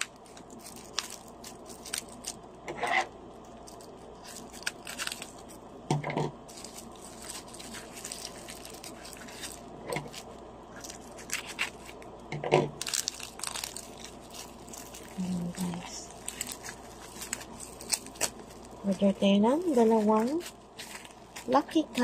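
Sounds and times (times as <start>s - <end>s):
plastic packaging rustling and crinkling: 0.0s - 2.5s, 3.4s - 22.0s.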